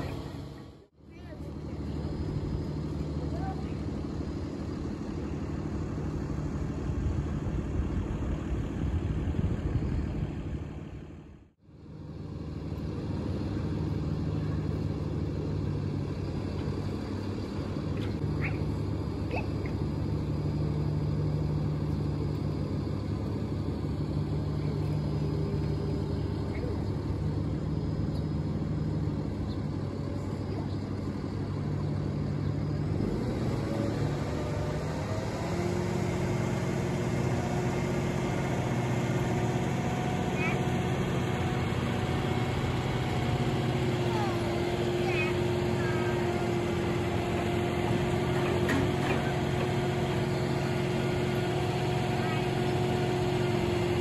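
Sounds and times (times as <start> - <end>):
truck engine running steadily: 0.0 - 54.0.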